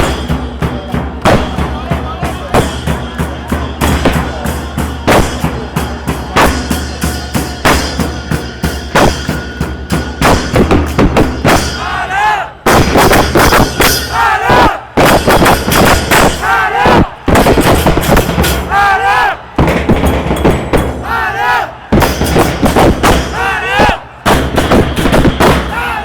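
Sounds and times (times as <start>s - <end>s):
supporters shouting and chanting: 0.0s - 8.0s, 11.4s - 26.0s
heavy drumming: 0.0s - 26.0s.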